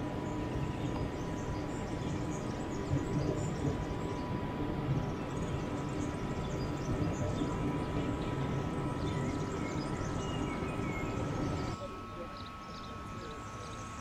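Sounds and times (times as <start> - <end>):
small birds chirping: 0.0 - 14.0
stationary train rumbling: 0.0 - 14.0
thin steady whine: 0.0 - 14.0.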